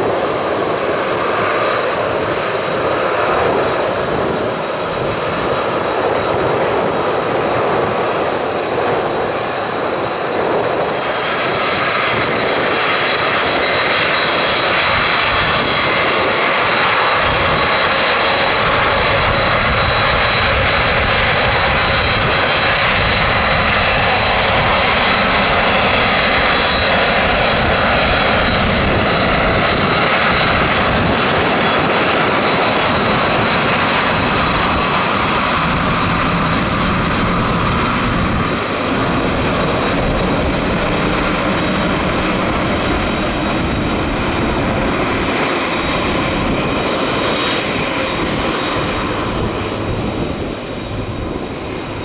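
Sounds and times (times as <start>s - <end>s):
jet engines with high whine: 0.0s - 52.0s.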